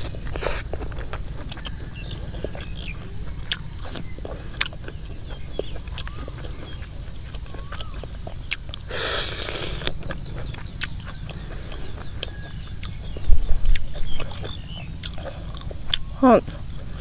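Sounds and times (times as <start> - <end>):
chewing with small clicks: 0.0 - 17.0.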